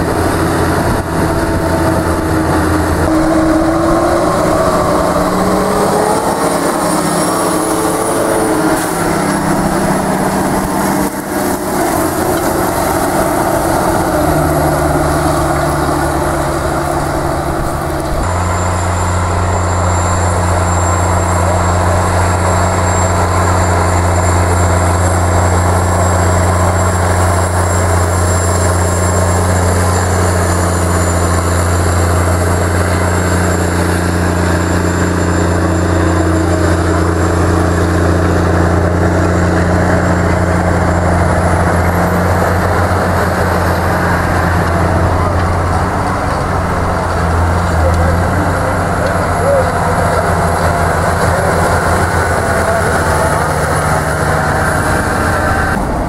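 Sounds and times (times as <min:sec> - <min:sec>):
deep engine drone: 0:00.0 - 0:56.0
tractor diesel engines running: 0:00.0 - 0:56.0.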